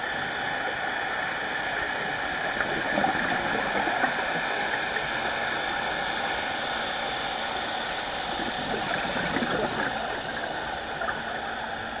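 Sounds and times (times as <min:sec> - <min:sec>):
underwater hiss and rumble: 0:00.0 - 0:12.0.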